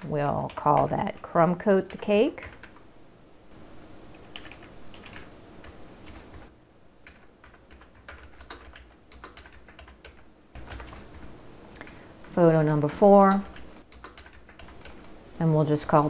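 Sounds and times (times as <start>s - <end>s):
computer keyboard typing: 0.0s - 2.8s, 4.1s - 15.2s.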